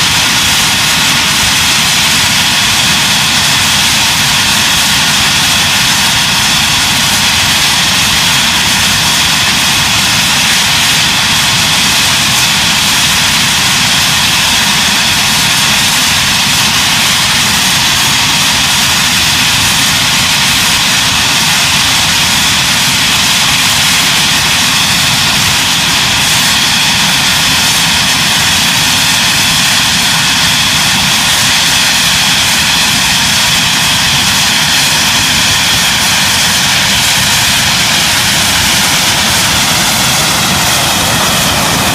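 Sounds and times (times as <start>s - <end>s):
jet engines whining and rushing: 0.0s - 41.9s.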